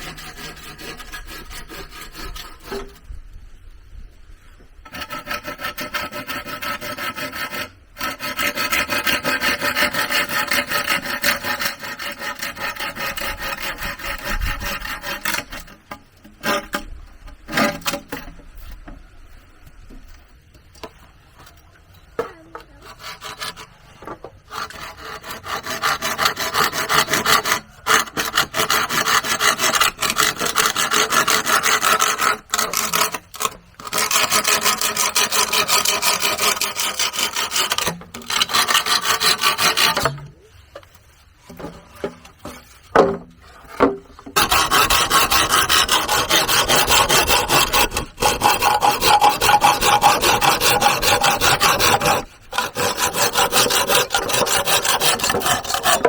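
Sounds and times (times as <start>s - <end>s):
hand tool rasping wood: 0.0s - 3.0s, 4.9s - 16.9s, 22.6s - 40.3s, 43.5s - 56.0s.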